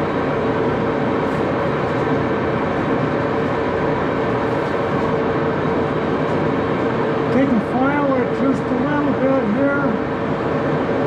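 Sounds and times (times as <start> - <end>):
lathe machine drone: 0.0 - 11.0.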